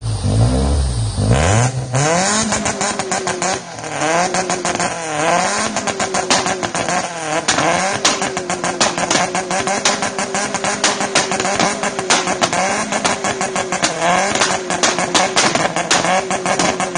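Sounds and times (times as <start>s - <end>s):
car engine on rev limiter: 0.0s - 16.9s
sharp exhaust pops and cracks: 1.7s - 16.9s.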